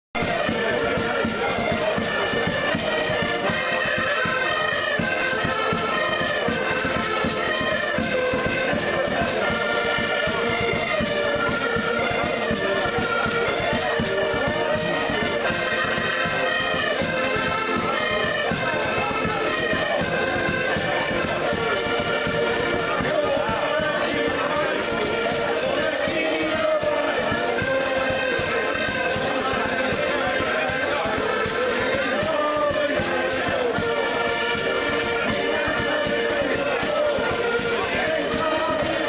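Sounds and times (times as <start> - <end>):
accordions playing a tune: 0.2 - 39.0.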